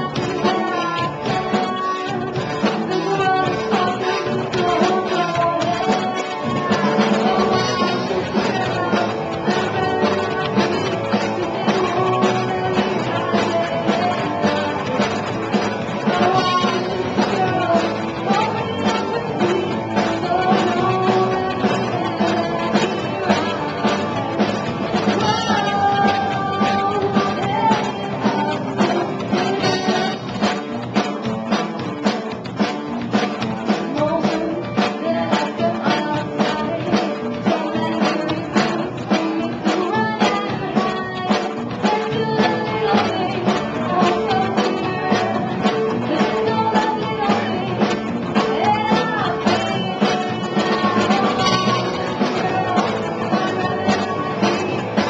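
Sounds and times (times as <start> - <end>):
drum kit: 0.0 - 55.0
electric guitars: 0.0 - 55.0
woman singing: 0.0 - 55.0.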